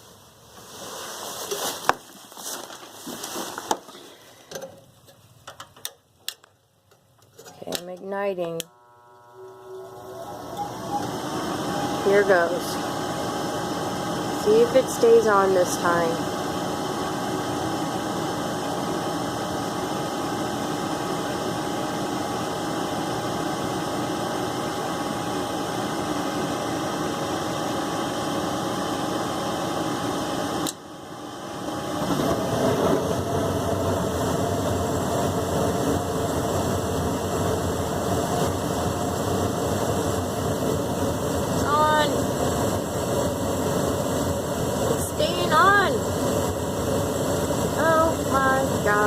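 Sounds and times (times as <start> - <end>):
furnace hum: 0.0 - 49.0.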